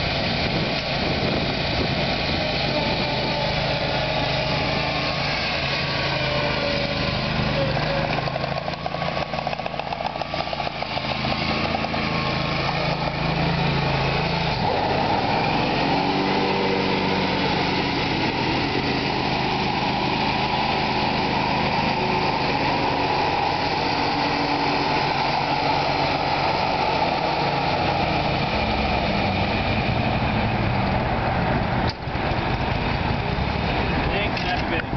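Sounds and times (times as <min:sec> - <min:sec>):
riding mower engine running: 0:00.0 - 0:34.9.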